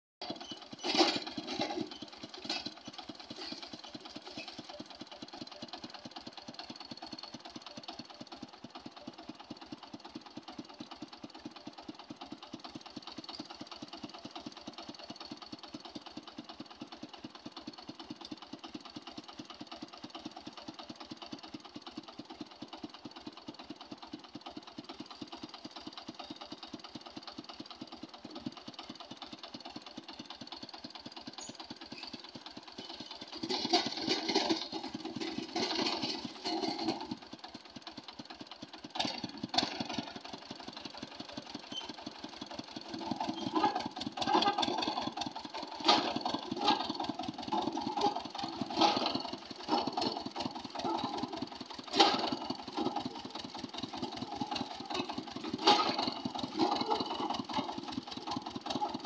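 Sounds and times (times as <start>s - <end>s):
small engine running steadily: 0.2s - 59.0s.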